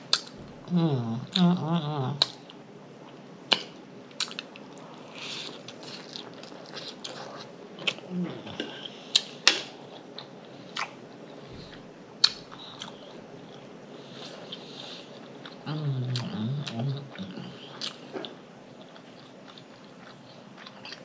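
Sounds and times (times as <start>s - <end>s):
chewing: 3.5s - 11.0s, 11.6s - 21.0s.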